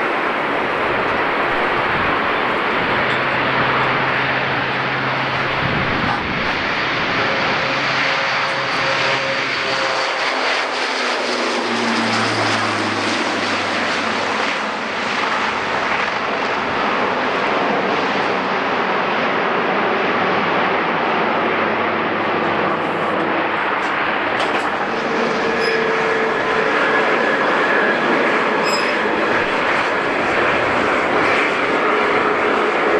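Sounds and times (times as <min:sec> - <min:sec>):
large aircraft flying past: 0:00.0 - 0:32.9.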